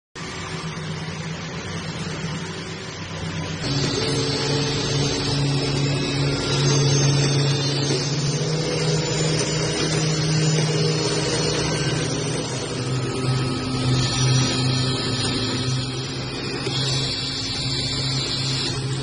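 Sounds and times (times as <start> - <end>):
weaving machines running: 0.2 - 19.0.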